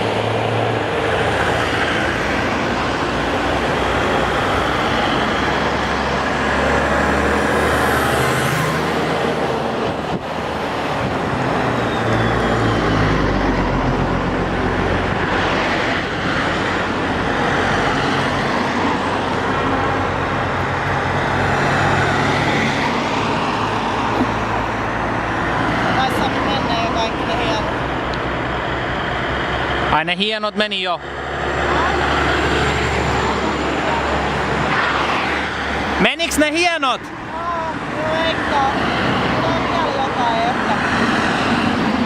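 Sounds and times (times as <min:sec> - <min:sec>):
heavy trucks driving past: 0:00.0 - 0:42.0
traffic noise: 0:00.0 - 0:42.0.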